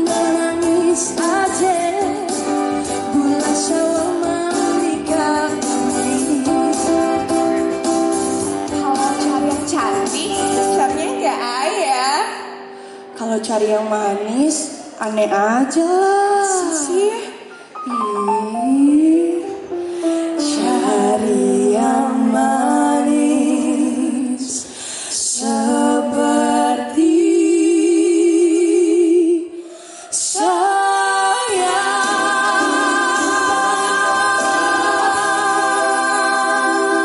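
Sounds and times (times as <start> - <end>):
two women singing a duet: 0.0 - 7.4, 13.8 - 37.0.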